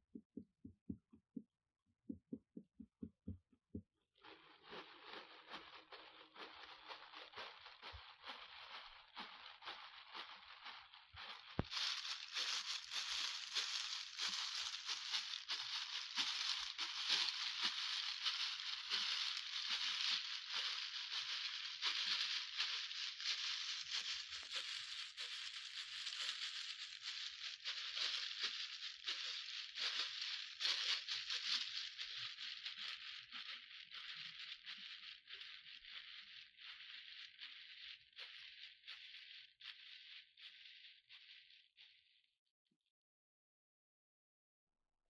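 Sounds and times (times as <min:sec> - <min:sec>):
small clicks and crinkles: 0:04.2 - 0:42.4.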